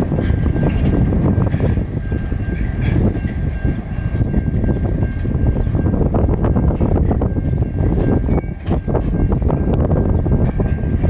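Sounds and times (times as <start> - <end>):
freight train rumbling past: 0.0 - 11.0
wheels clanking on track: 0.0 - 11.0.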